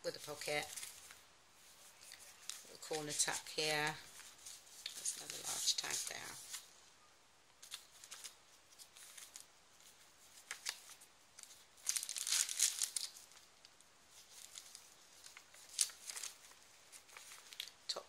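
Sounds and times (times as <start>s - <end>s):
paper rustling and crinkling: 0.2s - 6.8s, 7.6s - 17.9s.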